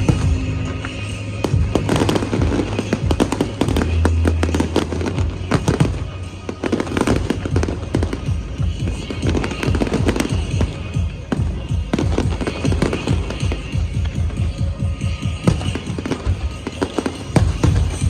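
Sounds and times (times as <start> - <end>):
fireworks crackling: 0.0 - 18.0
music playing: 0.0 - 18.0.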